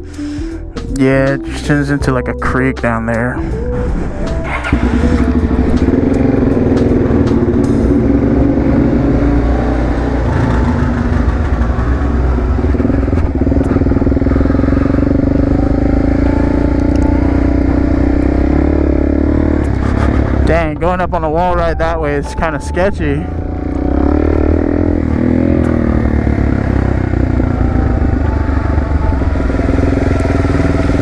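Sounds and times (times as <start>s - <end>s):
motorcycle engine running: 2.4s - 31.0s.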